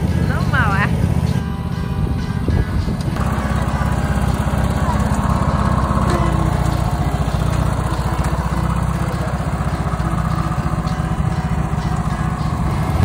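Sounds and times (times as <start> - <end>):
riding mower engine running: 0.0 - 13.0.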